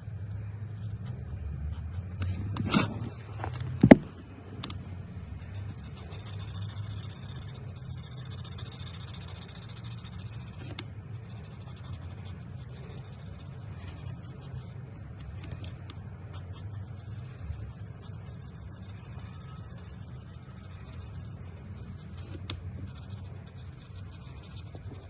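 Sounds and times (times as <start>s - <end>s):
marker scratching on paper: 0.0s - 4.0s, 5.1s - 25.0s
steady low hum: 0.0s - 25.0s.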